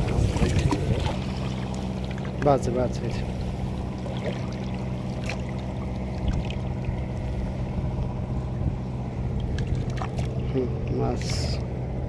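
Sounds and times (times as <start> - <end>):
water trickling and splashing: 0.0 - 11.5
steady low hum: 0.0 - 12.0.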